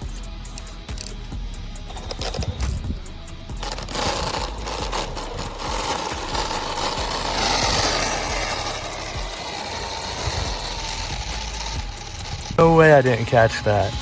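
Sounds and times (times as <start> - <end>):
rc car motors and tyres: 0.0 - 14.0.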